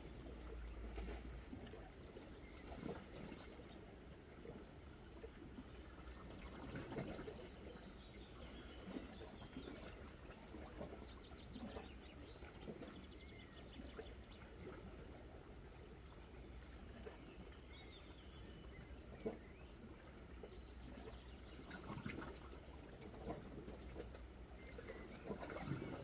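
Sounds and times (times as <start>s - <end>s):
small waves lapping on rocks: 0.0s - 26.0s.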